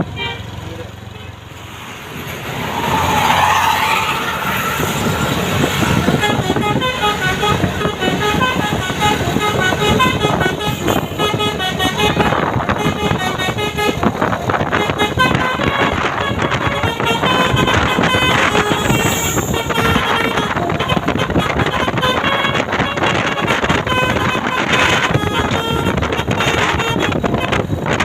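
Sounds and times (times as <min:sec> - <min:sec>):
bus horn playing a fast tune: 0:00.0 - 0:28.0.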